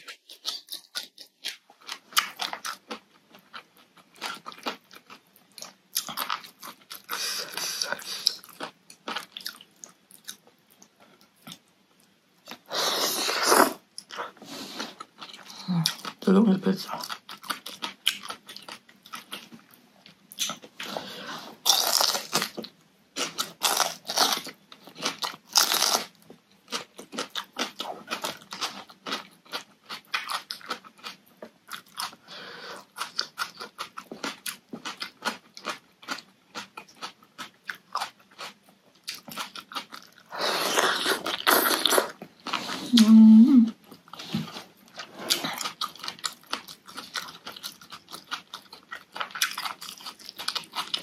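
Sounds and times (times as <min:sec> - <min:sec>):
crunchy chewing of raw vegetables: 0:00.0 - 0:16.3, 0:16.9 - 0:43.0, 0:43.7 - 0:51.0.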